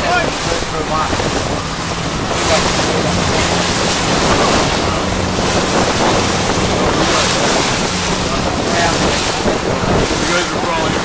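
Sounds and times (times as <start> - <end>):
low motor hum: 0.0 - 11.0
sea water rushing past boat: 0.0 - 11.0
wind buffeting the microphone: 0.0 - 11.0.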